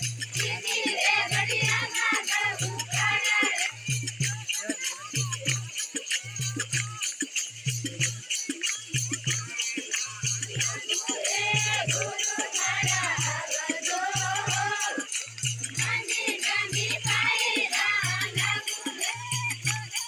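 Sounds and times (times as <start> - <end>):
jingling rattle percussion: 0.0 - 20.0
steady drum beat: 0.0 - 20.0.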